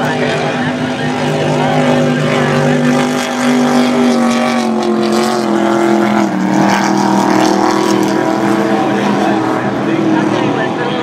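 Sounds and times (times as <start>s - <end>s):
powerboat engines droning: 0.0s - 11.0s.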